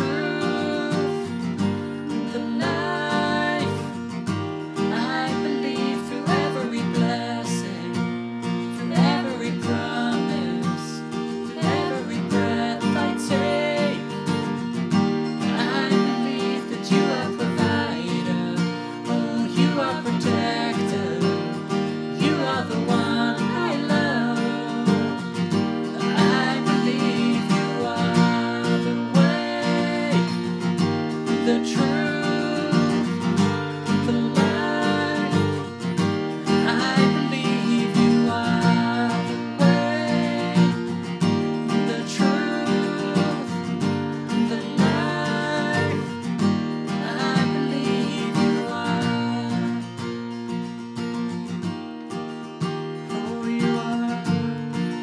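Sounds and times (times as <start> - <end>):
man and woman singing: 0.0 - 50.0, 53.0 - 55.0
strummed acoustic guitar: 0.0 - 55.0.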